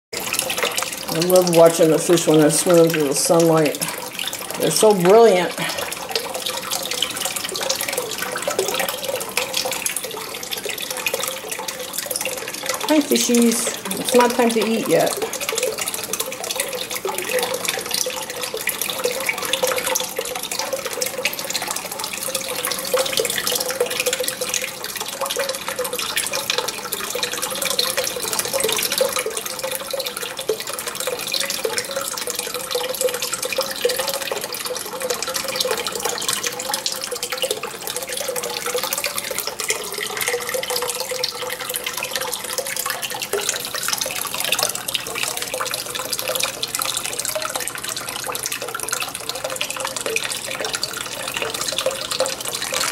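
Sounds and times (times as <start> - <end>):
water pouring into pond: 0.2 - 52.9.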